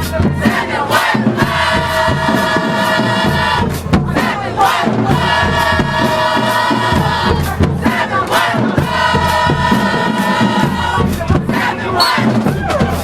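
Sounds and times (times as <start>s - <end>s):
crowd voices: 0.0s - 13.0s
marching drum hits: 0.0s - 13.0s.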